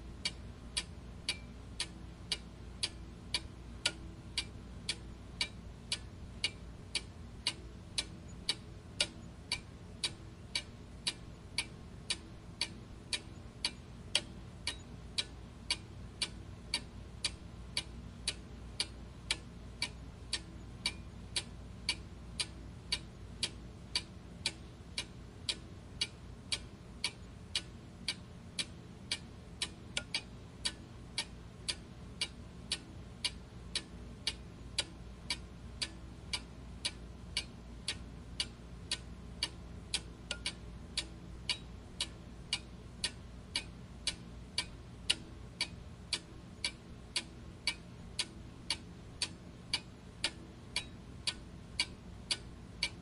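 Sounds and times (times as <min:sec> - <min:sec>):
mechanical clock ticking: 0:00.0 - 0:53.0.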